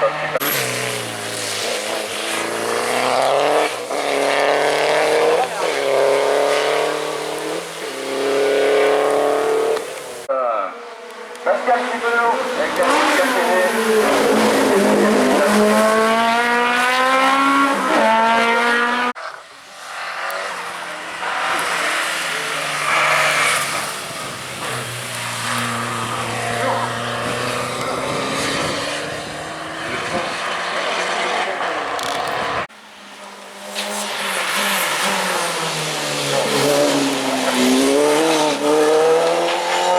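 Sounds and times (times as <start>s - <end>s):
race cars accelerating: 0.0s - 39.9s.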